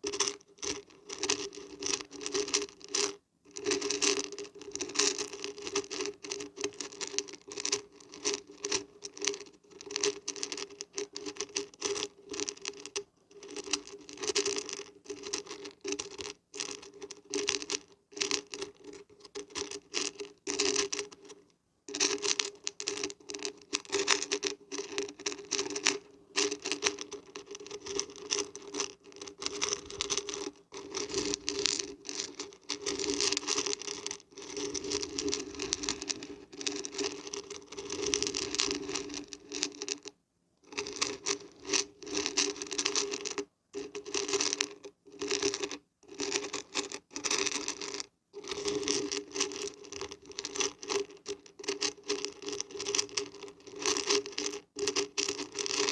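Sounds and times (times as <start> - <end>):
dried beans rattling when shaken: 0.0 - 55.9.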